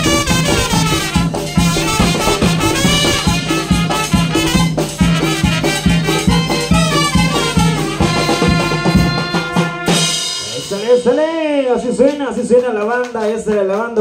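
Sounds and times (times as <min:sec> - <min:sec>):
brass band playing dance music: 0:00.0 - 0:11.4.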